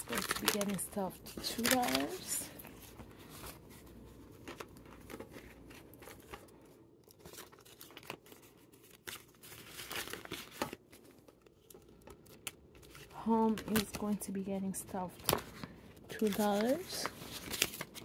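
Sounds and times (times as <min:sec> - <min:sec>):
paper bills and plastic crinkling: 0:00.0 - 0:18.0.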